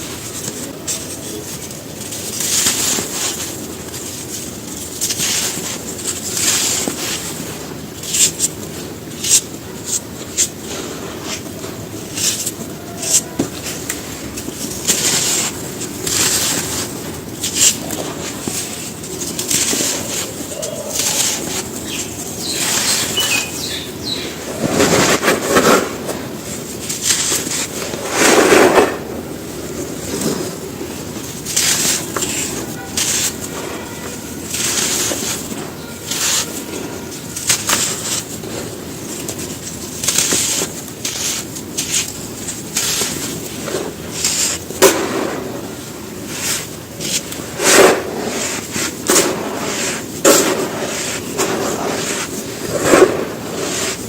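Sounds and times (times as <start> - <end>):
dry cement crumbling: 0.0 - 54.0
low background noise: 0.0 - 54.0.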